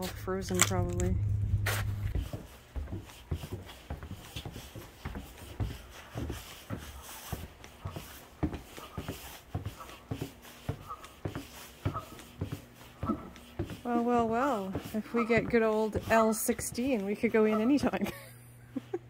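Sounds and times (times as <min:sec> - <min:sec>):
footsteps on wooden decking: 0:00.0 - 0:19.0.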